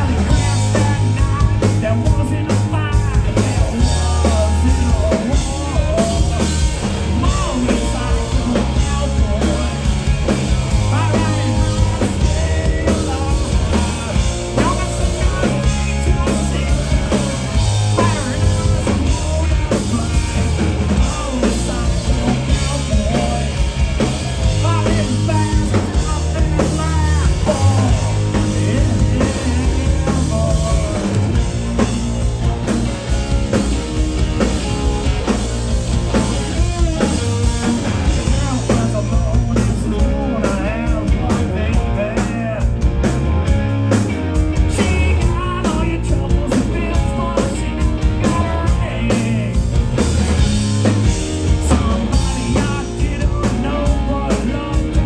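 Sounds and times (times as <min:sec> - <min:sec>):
person singing lead vocals: 0:00.0 - 0:32.8, 0:36.1 - 0:55.0
drum kit: 0:00.0 - 0:55.0
live rock band playing: 0:00.0 - 0:55.0.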